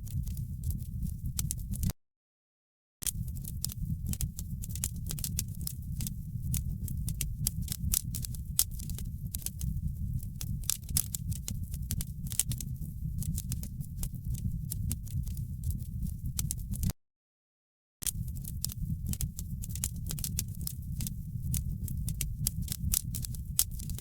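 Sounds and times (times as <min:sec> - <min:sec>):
wood fire crackling: 0:03.1 - 0:16.9, 0:18.1 - 0:24.0.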